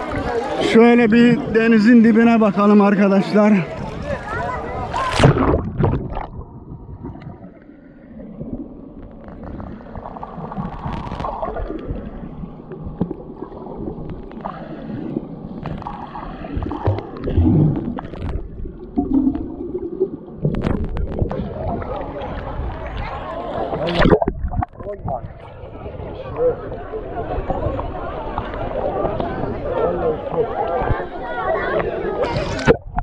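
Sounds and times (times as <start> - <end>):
gurgling water and bubbles: 0.0 - 33.0
muffled underwater rumble: 3.7 - 33.0.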